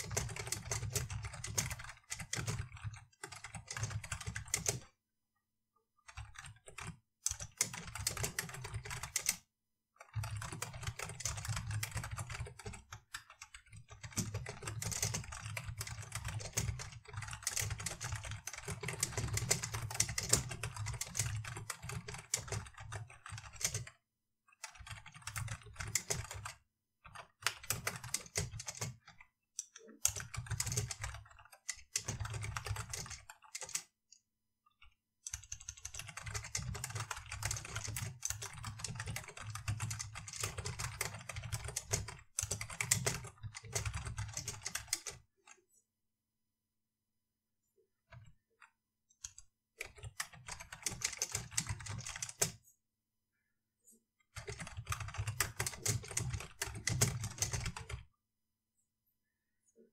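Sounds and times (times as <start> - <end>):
typing on computer keyboard: 0.0 - 5.0, 6.0 - 45.6, 48.1 - 52.6, 54.3 - 58.1.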